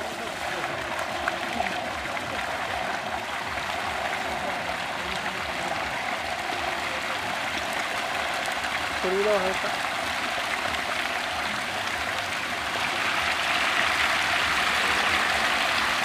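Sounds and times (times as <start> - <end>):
water pouring from pipe: 0.0 - 16.0.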